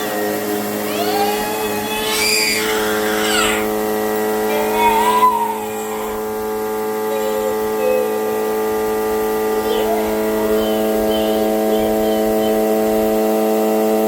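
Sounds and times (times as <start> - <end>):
vacuum cleaner humming: 0.0 - 14.0.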